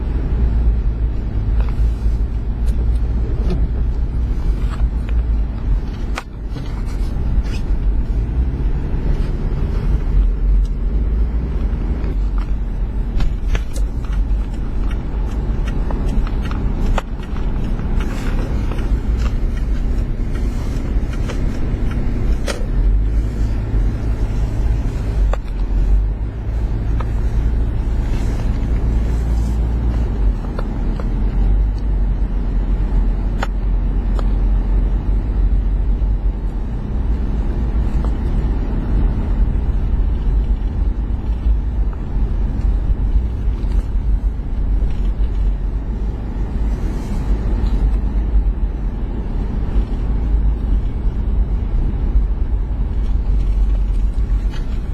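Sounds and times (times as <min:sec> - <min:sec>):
vehicle engine droning: 0:00.0 - 0:54.9.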